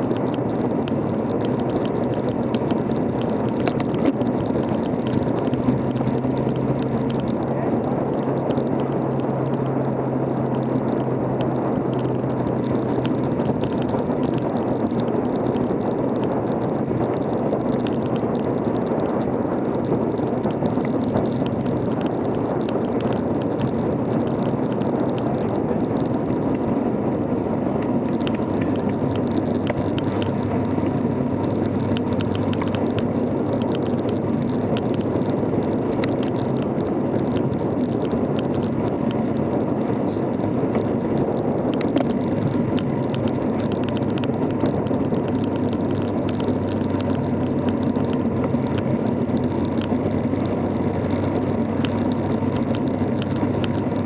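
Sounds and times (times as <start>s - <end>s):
small ticks and rattles: 0.0s - 54.0s
tyre noise on asphalt: 0.0s - 54.0s.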